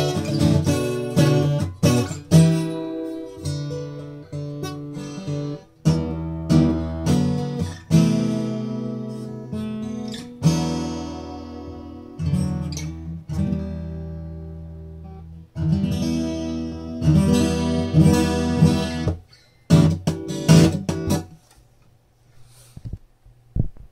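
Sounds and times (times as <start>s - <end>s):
acoustic guitar strummed: 0.0s - 21.5s.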